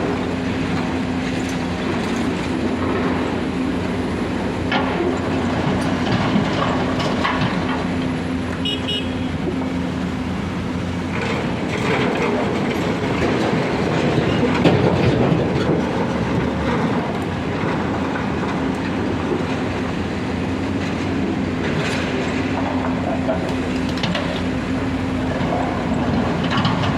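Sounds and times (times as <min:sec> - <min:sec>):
heavy diesel engines running: 0:00.0 - 0:26.9.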